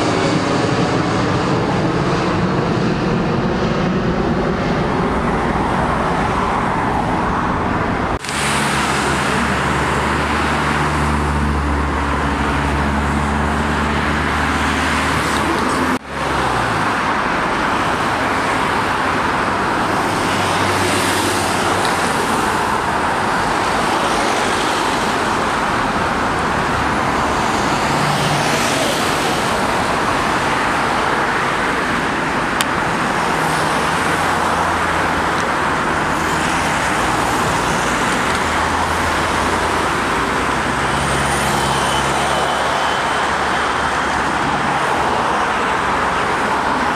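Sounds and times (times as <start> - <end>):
road traffic noise: 0.0 - 46.9.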